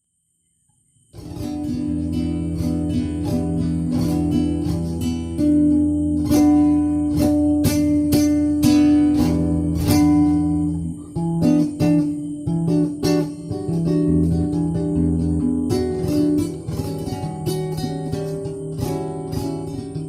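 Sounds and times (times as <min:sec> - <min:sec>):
acoustic guitar strumming: 0:01.1 - 0:20.0.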